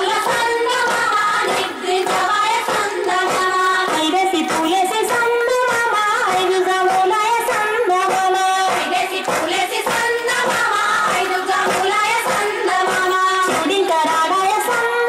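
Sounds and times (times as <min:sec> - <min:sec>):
high voices singing folk song: 0:00.0 - 0:15.0
music with steady beat: 0:00.0 - 0:15.0.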